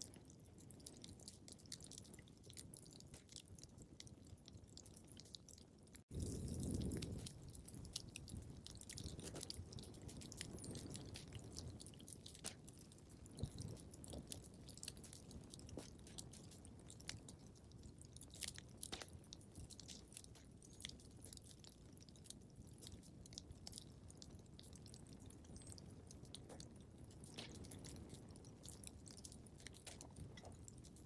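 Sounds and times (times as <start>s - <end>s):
low rumble of burning logs: 0.0s - 31.0s
wood fire crackling: 0.0s - 31.0s.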